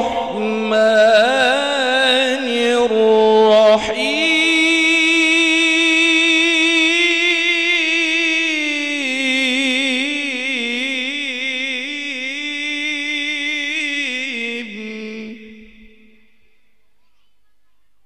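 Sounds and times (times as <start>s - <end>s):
man reciting melodically: 0.0s - 16.5s.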